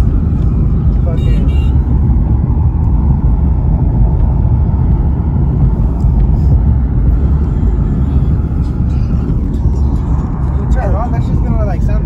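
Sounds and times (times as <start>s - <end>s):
car driving interior rumble: 0.0s - 12.0s.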